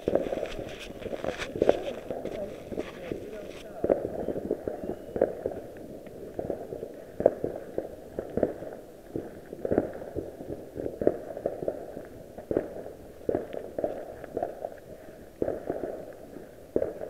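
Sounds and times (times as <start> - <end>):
distant fireworks bangs and pops: 0.0 - 17.0.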